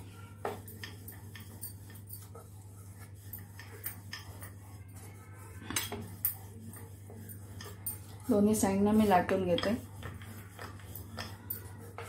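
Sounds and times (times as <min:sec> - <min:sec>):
rolling pin rolling dough: 0:00.0 - 0:12.0.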